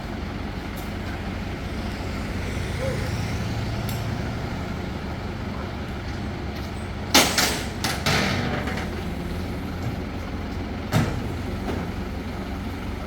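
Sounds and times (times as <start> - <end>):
heavy engine running: 0.0 - 13.0.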